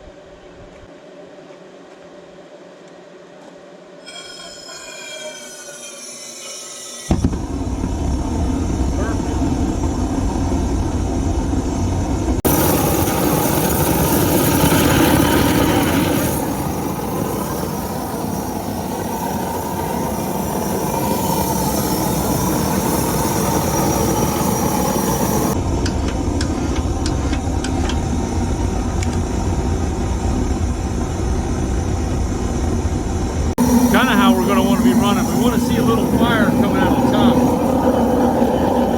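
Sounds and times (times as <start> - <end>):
gas burner flame rushing: 7.0 - 38.9.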